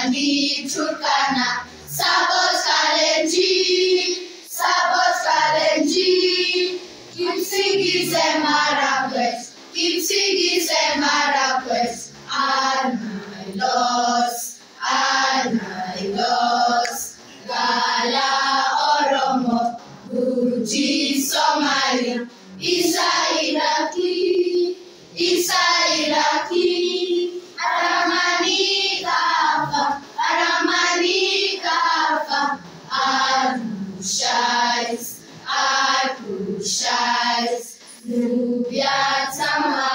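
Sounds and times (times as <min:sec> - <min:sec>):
children singing together: 0:00.0 - 0:39.9.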